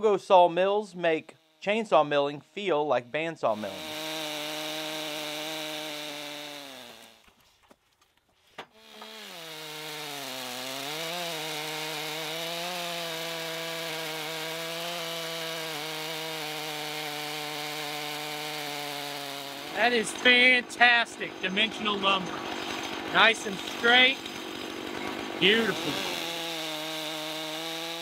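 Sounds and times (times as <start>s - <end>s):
chainsaw cutting log: 0.0s - 7.4s, 8.6s - 28.0s.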